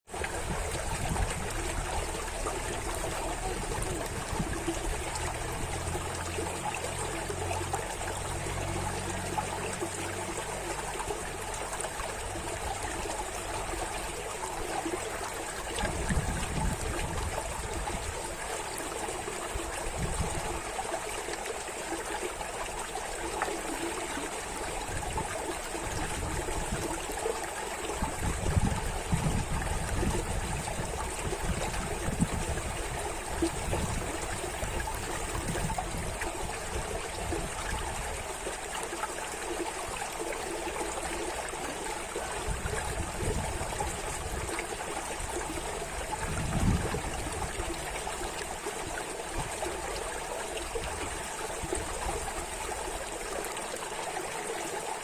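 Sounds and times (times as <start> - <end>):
running water rushing: 0.1 - 55.0.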